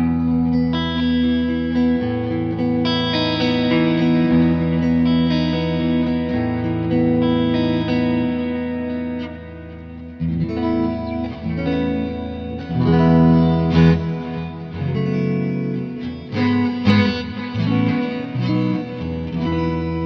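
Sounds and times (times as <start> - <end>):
electric guitar lead melody: 0.0 - 20.0.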